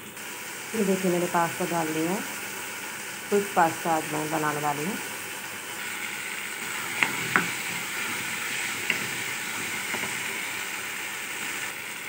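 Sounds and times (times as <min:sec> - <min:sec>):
pasta sizzling in oil: 0:00.0 - 0:12.0.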